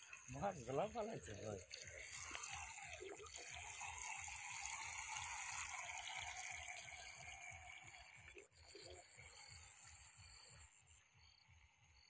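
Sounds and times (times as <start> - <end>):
toy boat propeller and motor: 0.0 - 12.0.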